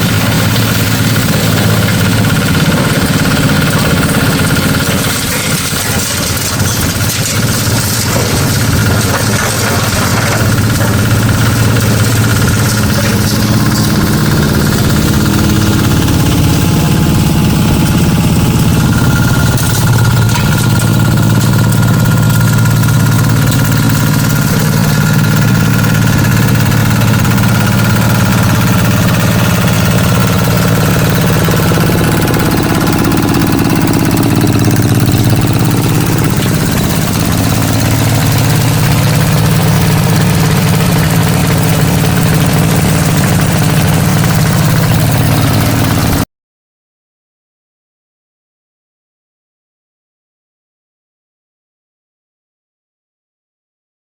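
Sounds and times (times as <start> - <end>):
sorting machine mechanical drone: 0.0 - 46.2.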